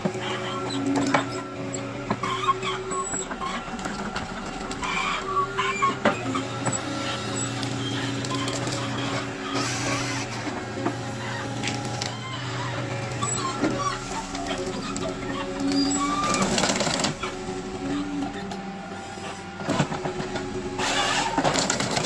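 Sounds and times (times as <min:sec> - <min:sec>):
harvester engine running: 0:00.0 - 0:22.0
knocks clicks and squeaks: 0:00.0 - 0:22.0.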